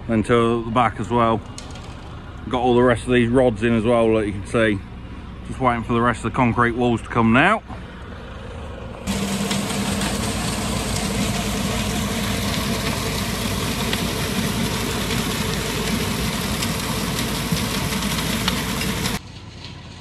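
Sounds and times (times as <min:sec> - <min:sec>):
concrete lorry engine and machinery: 0:00.0 - 0:20.0.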